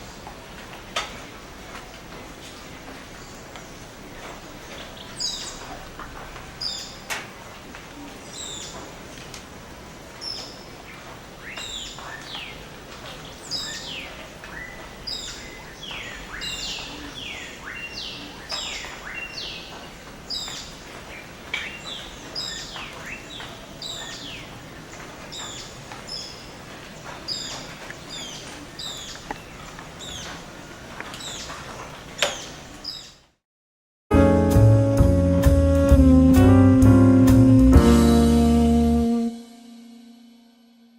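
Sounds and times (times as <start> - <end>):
low background hiss: 0.0 - 33.2.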